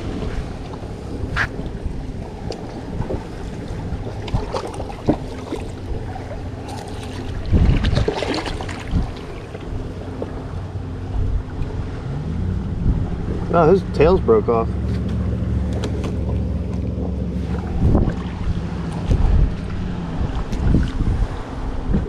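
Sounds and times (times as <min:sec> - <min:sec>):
knocks and splashes: 0:00.0 - 0:14.1, 0:14.7 - 0:22.0
water lapping around boat: 0:00.0 - 0:22.0
wind buffeting microphone: 0:00.0 - 0:22.0.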